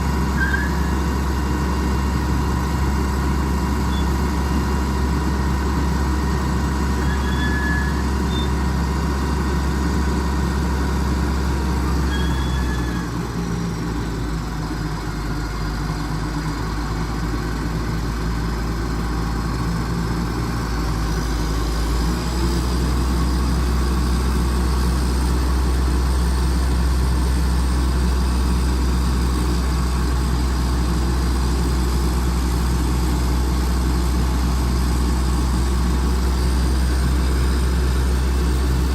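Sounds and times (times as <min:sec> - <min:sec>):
crane diesel engine idling: 0:00.0 - 0:38.9.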